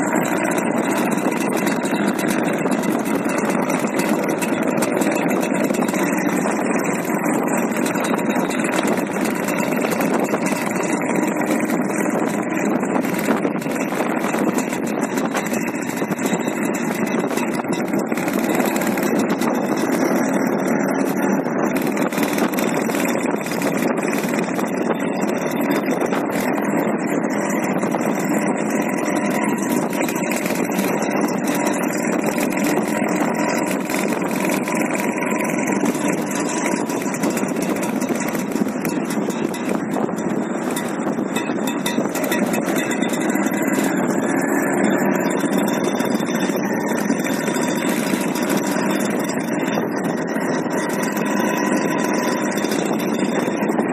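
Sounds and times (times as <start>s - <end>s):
road noise: 0.0s - 53.9s
scooter engine running: 0.0s - 53.9s.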